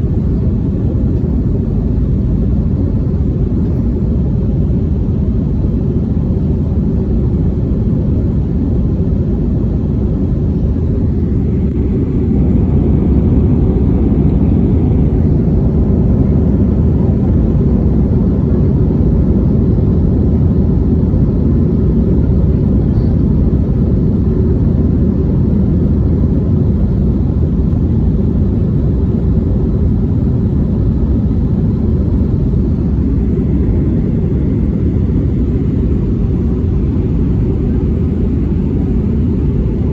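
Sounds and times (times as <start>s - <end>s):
jet engines at takeoff thrust: 0.0s - 39.9s.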